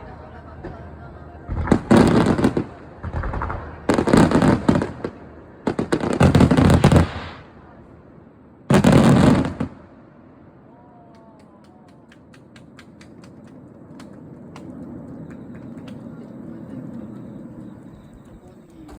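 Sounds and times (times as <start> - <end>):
crackling fireworks: 0.0 - 19.0.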